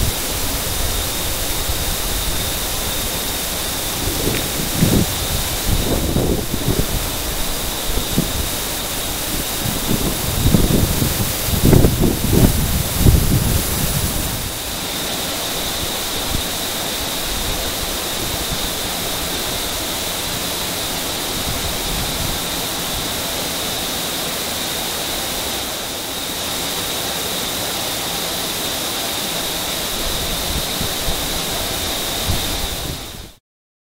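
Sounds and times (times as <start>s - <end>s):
steady rushing noise: 0.0s - 33.4s
thin high whine: 0.0s - 33.4s.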